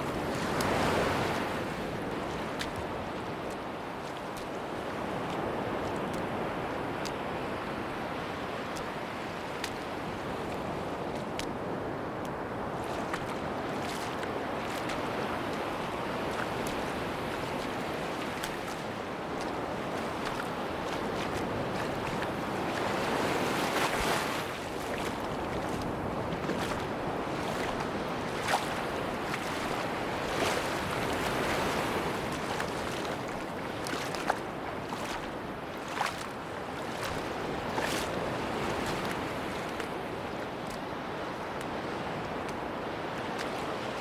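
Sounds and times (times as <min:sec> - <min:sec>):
sea waves on beach: 0:00.0 - 0:44.0.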